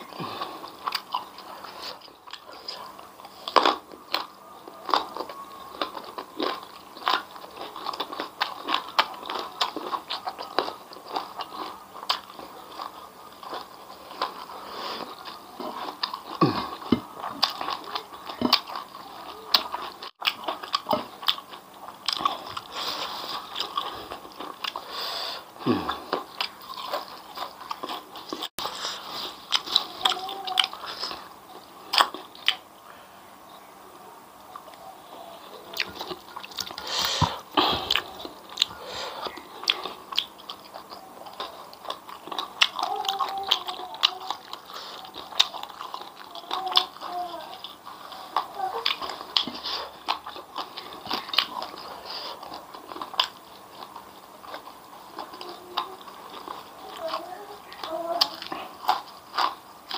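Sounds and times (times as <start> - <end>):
crunchy chewing: 0.0 - 33.7, 34.4 - 59.9.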